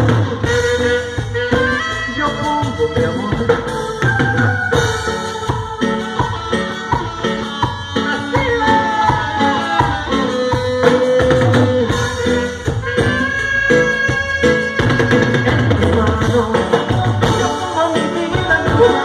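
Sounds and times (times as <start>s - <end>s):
drum kit and percussion beat: 0.0s - 19.0s
saxophones holding long notes: 0.0s - 19.0s.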